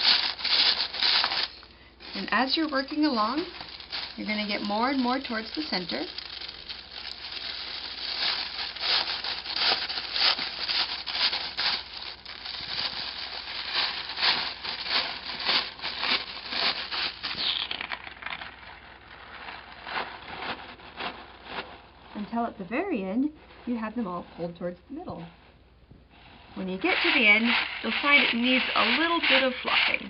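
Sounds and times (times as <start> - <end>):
tissue paper rustling: 0.0 - 22.7, 26.1 - 30.0.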